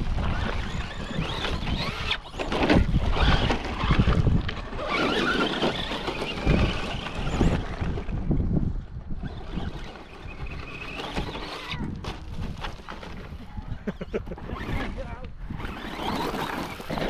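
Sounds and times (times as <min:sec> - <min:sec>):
toy truck motors: 0:00.0 - 0:17.0
wind noise on microphone: 0:00.0 - 0:17.0.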